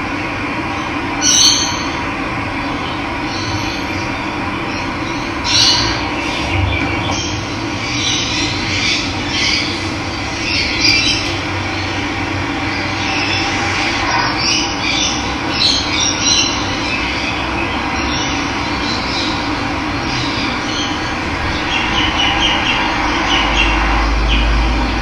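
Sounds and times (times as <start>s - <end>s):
birds chirping and squawking: 1.2s - 2.0s, 2.6s - 25.0s.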